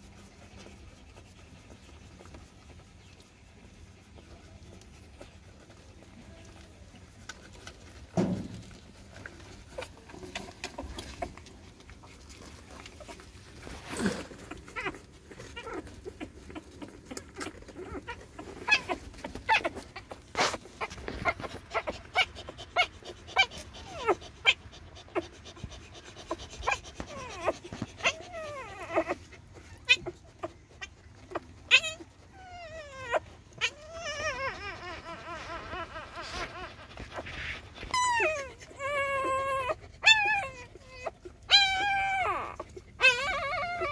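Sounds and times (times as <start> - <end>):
high puppy whimpers: 0.0 - 43.9
puppies suckling wet smacking: 0.0 - 43.9.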